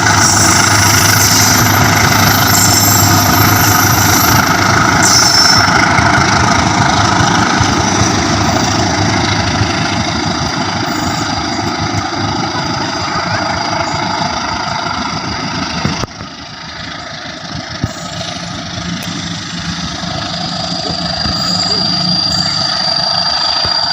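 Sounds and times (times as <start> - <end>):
diesel locomotive engine running: 0.0 - 23.9
high whine: 0.0 - 23.9.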